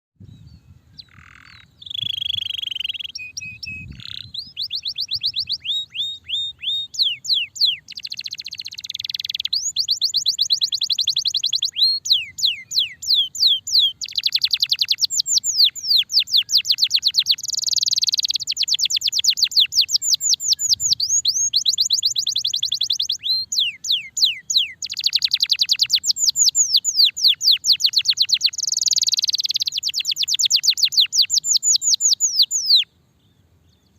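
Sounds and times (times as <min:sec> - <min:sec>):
canary singing trills: 0:00.2 - 0:32.9.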